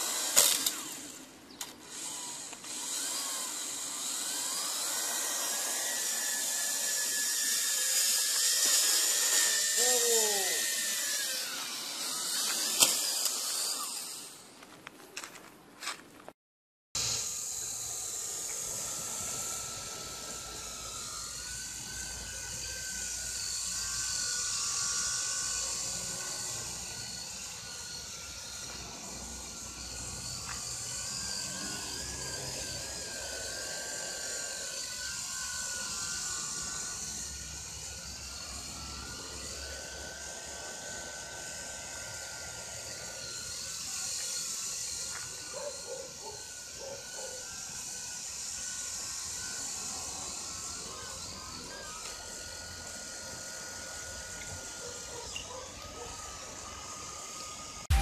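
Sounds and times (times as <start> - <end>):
quadcopter propellers whining: 0.0 - 15.4, 17.0 - 58.0.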